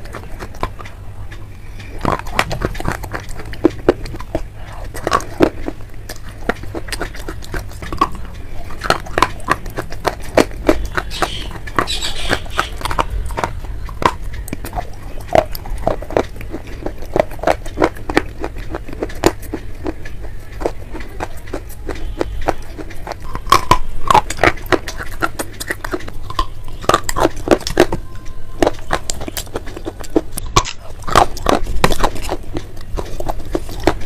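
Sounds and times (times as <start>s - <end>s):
chewing crunches and cracks: 0.0s - 34.0s.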